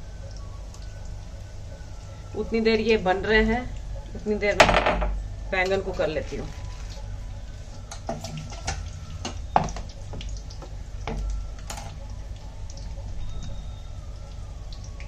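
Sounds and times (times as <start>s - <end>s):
deep-frying sizzle with crackles: 0.0s - 15.0s
low steady hum: 0.0s - 15.0s.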